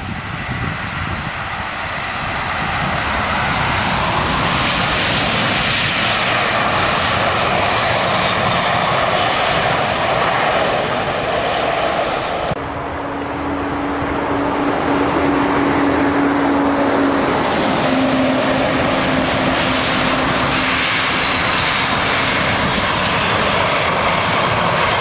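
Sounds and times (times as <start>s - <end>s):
airliner engines passing overhead: 0.0s - 25.0s.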